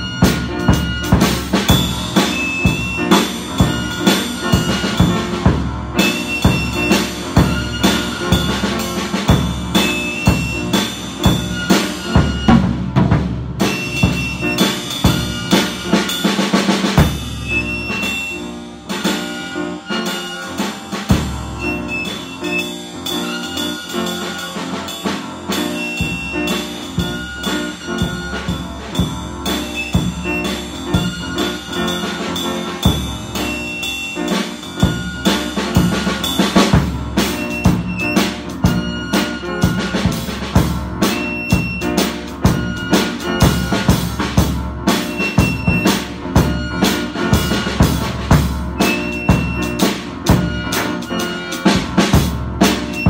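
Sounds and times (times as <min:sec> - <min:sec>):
drum kit beat: 0:00.0 - 0:53.0
instrumental band music: 0:00.0 - 0:53.0.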